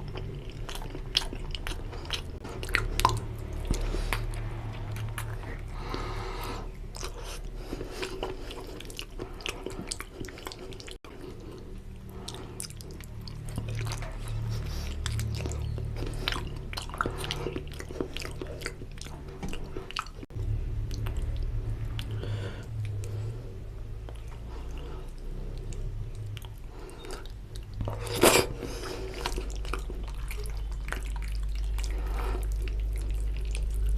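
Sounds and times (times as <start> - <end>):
mouth chewing smacks: 0.0 - 23.2, 24.0 - 33.9
low steady hum: 0.0 - 33.9.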